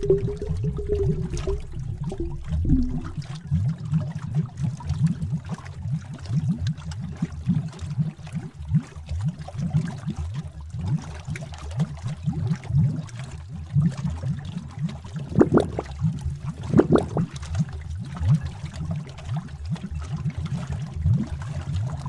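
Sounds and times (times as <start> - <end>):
thick liquid bubbling: 0.0 - 22.0.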